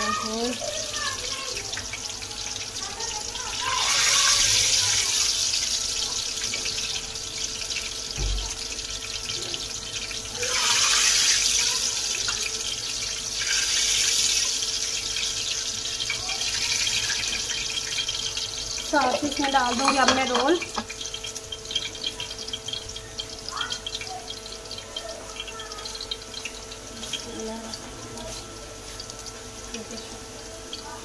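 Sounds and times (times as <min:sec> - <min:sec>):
hot oil sizzling in a pan: 0:00.0 - 0:31.0.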